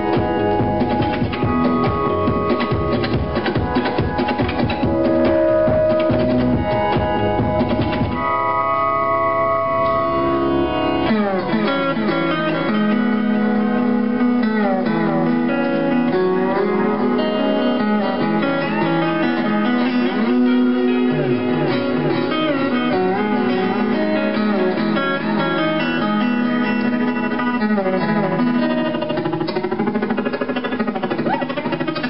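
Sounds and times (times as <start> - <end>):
slide guitar: 0.0 - 32.0.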